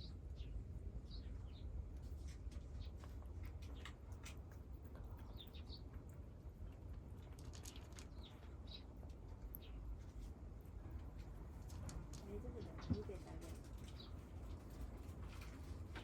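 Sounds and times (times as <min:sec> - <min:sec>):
small clicks and crackles: 0:02.1 - 0:10.3, 0:11.0 - 0:16.0.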